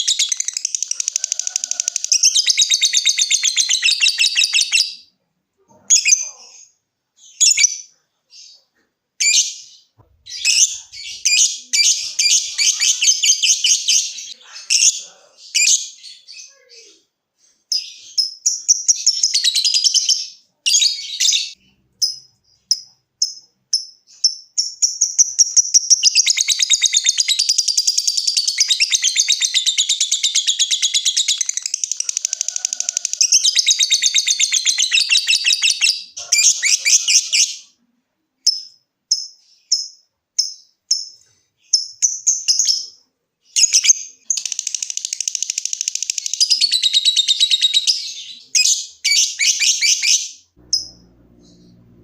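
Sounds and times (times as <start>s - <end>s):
lovebird chirping: 0.0s - 5.1s, 5.7s - 37.8s, 38.4s - 52.0s.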